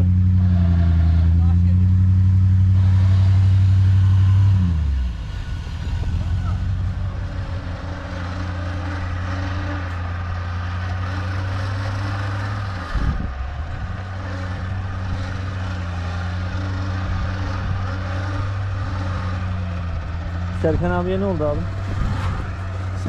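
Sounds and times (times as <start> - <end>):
engine straining under load: 0.0 - 23.0.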